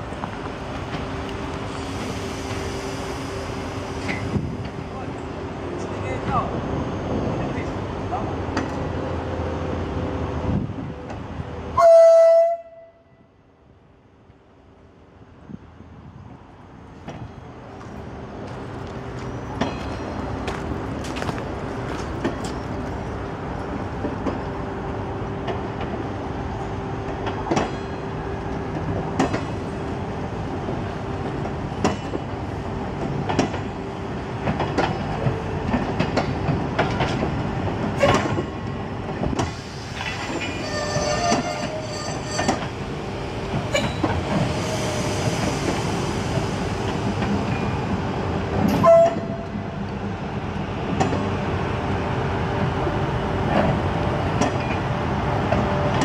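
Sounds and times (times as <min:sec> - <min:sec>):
train rumbling on track: 0:00.0 - 0:56.0.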